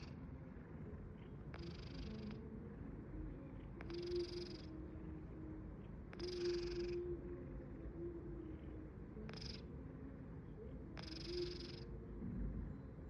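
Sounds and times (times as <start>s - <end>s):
cat snoring: 0.0s - 9.7s, 11.0s - 11.9s.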